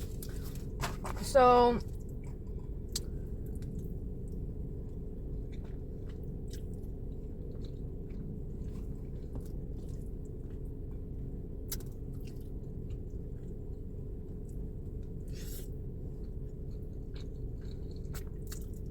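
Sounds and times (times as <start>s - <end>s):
person chewing food: 0.0s - 1.1s, 1.8s - 18.9s
low background hum: 0.0s - 18.9s.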